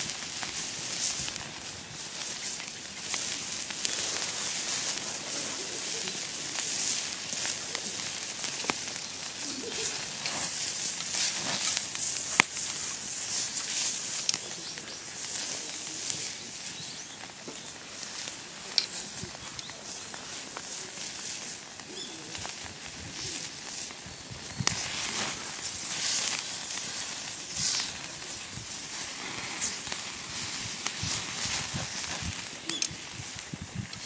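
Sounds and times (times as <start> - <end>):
steak sizzling on a griddle: 0.0 - 34.0.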